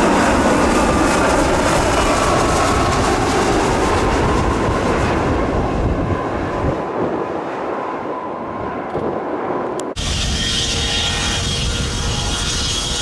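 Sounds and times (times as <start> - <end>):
jet engine rush: 0.0 - 13.0
wind on microphone: 0.0 - 13.0.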